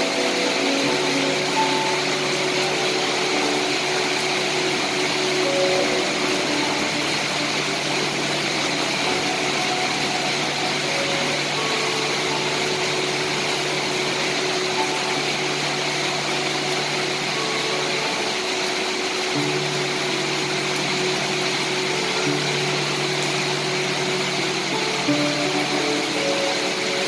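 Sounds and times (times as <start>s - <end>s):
rain hiss: 0.0s - 27.0s.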